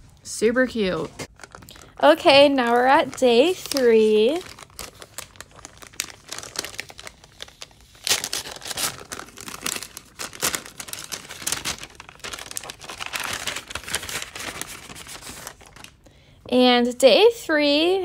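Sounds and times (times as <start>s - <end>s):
paper bag crinkling: 1.0s - 16.0s.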